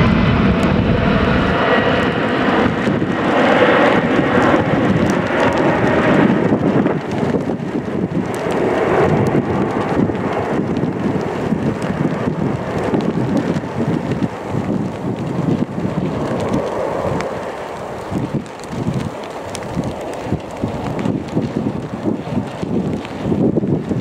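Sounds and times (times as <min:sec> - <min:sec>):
jet airliner rumbling: 0:00.0 - 0:24.0.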